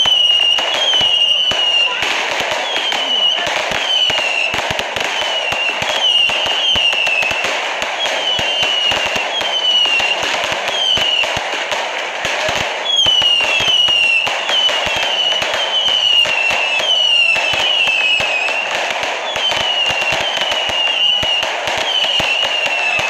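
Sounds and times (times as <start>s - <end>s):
fireworks cracking and popping: 0.0s - 23.0s.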